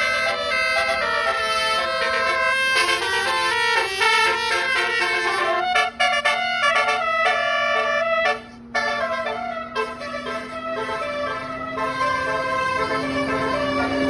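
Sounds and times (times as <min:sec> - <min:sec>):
multi-note bus horn melody: 0:00.0 - 0:14.0.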